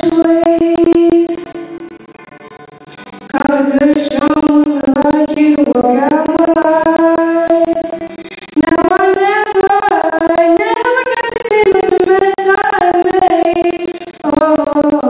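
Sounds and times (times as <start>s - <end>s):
girl singing into microphone: 0.0s - 1.8s, 3.3s - 8.0s, 8.6s - 15.0s
crackling clicks: 0.0s - 15.0s.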